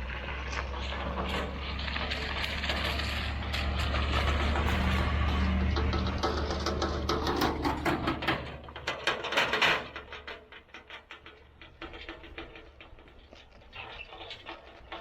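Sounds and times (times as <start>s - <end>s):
sharp clicks and crunches: 0.0s - 15.0s
vehicle engine humming: 0.0s - 15.0s.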